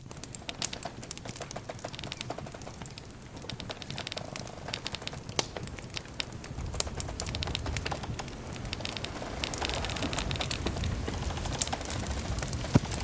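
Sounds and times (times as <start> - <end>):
campfire crackling: 0.0 - 13.0
low rumble of flames: 0.0 - 13.0.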